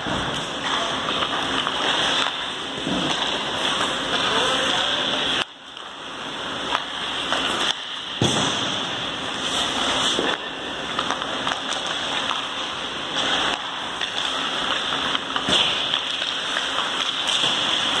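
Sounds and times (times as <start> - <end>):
hockey stick hitting puck: 0.0 - 4.7, 6.7 - 18.0.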